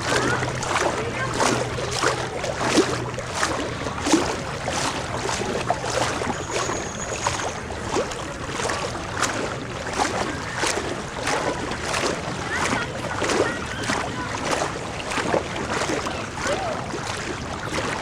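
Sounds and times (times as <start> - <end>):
floodwater splashing: 0.0 - 18.0
rushing water: 0.0 - 18.0.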